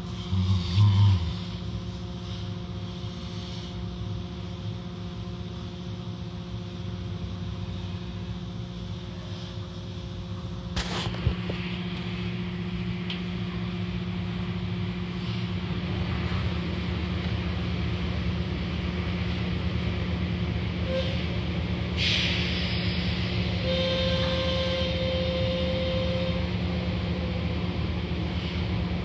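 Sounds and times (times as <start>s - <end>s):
car wash machinery hum: 0.0s - 29.0s.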